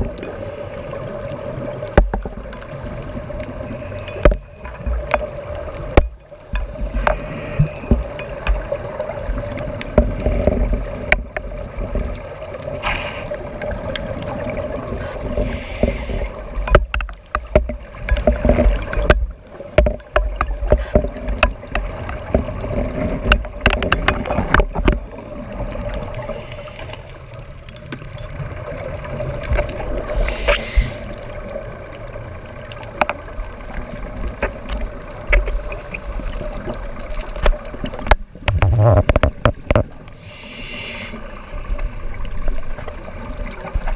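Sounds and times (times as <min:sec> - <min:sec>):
underwater boat engine drone: 0:00.0 - 0:37.0.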